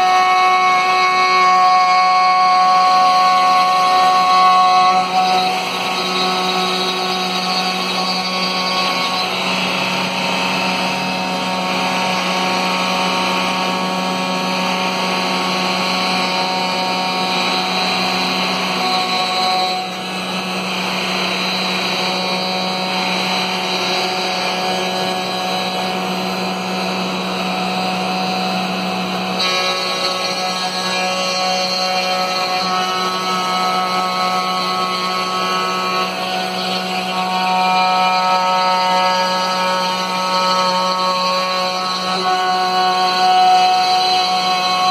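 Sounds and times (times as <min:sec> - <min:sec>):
router bit cutting plywood: 0:00.0 - 0:44.9
router motor hum: 0:00.0 - 0:44.9.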